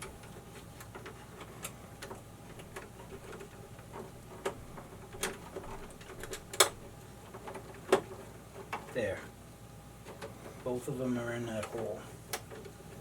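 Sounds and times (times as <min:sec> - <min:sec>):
wires clicking and tapping: 0:00.0 - 0:09.3, 0:11.4 - 0:13.0.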